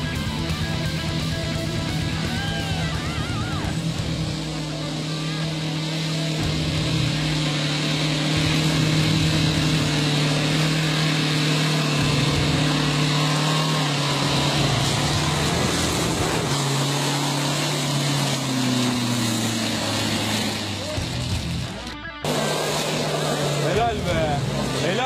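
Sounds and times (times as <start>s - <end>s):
car engine droning under load: 0.0s - 25.0s.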